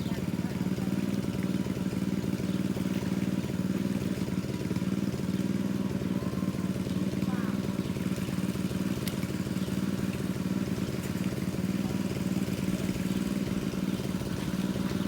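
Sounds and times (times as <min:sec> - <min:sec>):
water pump engine running: 0:00.0 - 0:15.0.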